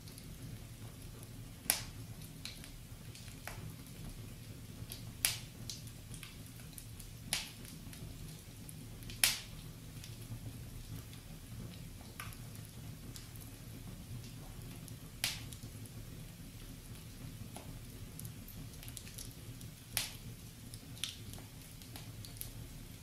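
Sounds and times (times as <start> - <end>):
burning logs popping: 0.0 - 23.0
low rumble of flames: 0.0 - 23.0
wood fire crackling: 0.0 - 23.0.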